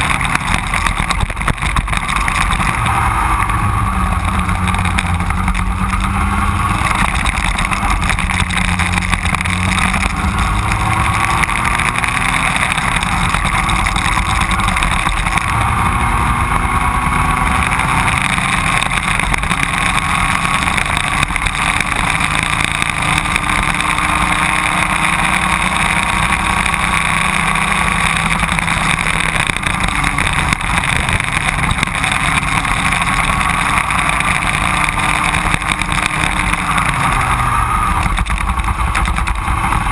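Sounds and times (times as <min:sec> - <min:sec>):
racing kart engine running hard: 0:00.0 - 0:39.9.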